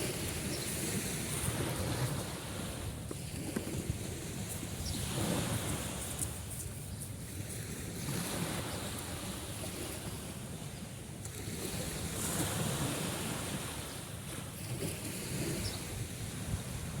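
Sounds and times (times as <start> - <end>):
sea waves washing in: 0.0 - 17.0
wind rumble on microphone: 0.0 - 17.0.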